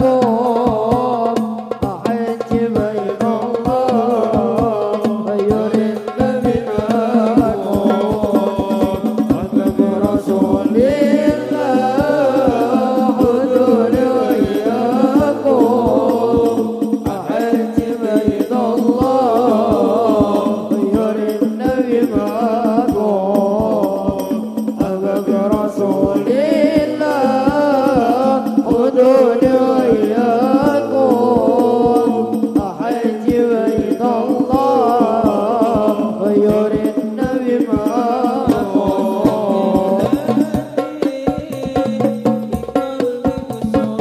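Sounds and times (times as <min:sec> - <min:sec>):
frame drums beating: 0:00.0 - 0:44.0
voices singing devotional song: 0:00.0 - 0:44.0.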